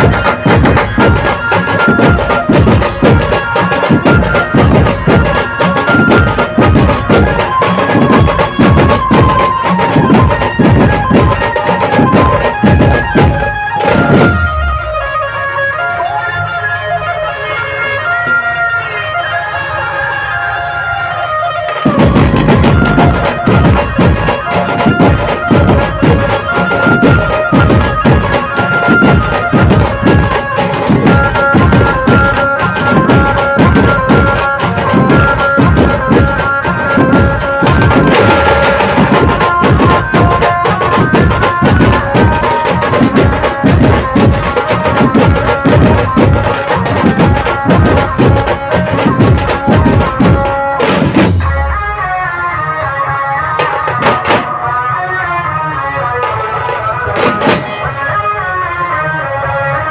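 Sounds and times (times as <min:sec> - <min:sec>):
barrel drums beating fast rhythm: 0:00.0 - 0:16.0, 0:21.7 - 0:52.0, 0:53.6 - 0:54.5, 0:56.7 - 0:57.8
held melody line: 0:00.0 - 0:58.8.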